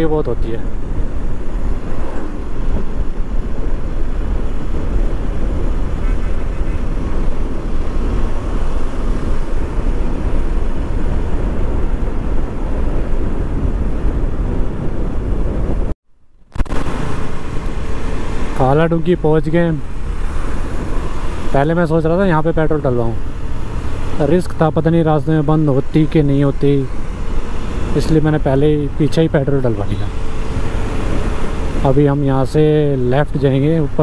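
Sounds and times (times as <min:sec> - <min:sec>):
wind rush on microphone: 0:00.0 - 0:34.0.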